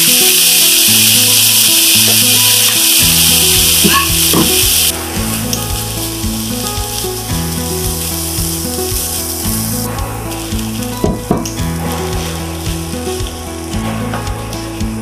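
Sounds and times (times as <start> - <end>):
spices sizzling in a frying pan: 0.0 - 15.0.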